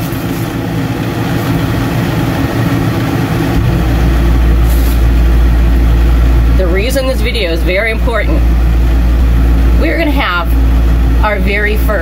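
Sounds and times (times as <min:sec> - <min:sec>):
air conditioner humming: 0:00.0 - 0:12.0
deep drone: 0:00.0 - 0:12.0.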